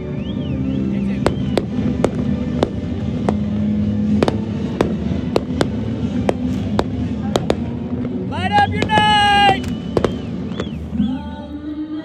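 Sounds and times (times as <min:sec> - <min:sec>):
fireworks cracking: 0:01.0 - 0:11.0.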